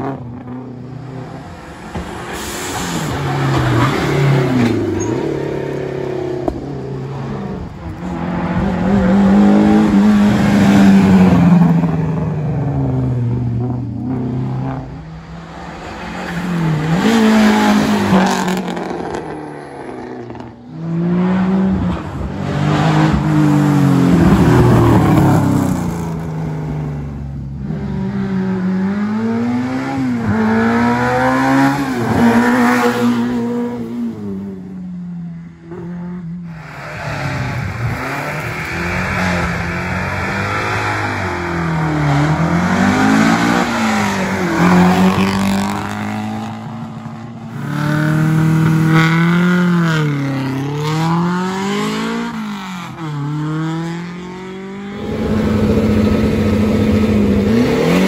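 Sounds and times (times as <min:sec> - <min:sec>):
rally car engines accelerating: 0:00.0 - 0:34.8, 0:35.5 - 0:58.0.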